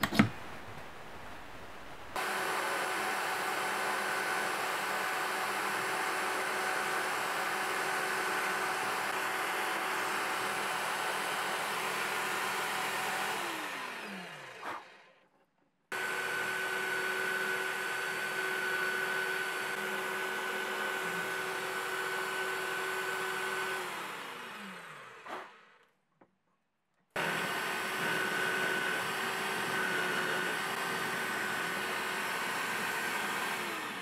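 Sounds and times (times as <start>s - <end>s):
electric drill whining: 2.2s - 15.1s, 15.9s - 25.8s, 27.2s - 34.0s.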